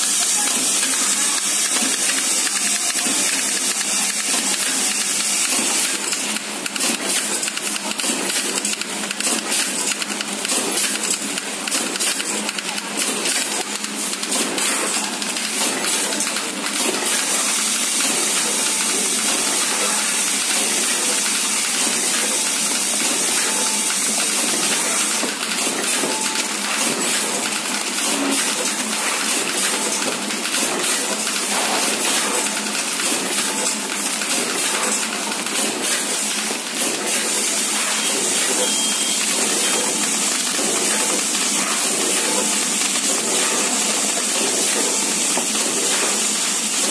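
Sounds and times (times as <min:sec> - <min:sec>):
packaging machine hissing: 0:00.0 - 0:46.9.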